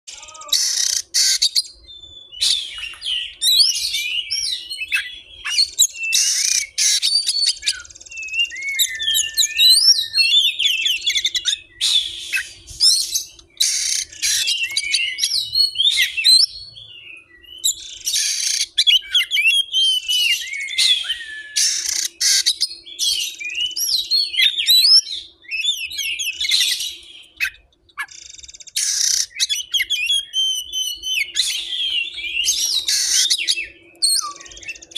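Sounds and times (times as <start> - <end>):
bird chirping and warbling: 0.1 - 34.9
harsh rasping bird calls: 0.1 - 34.9.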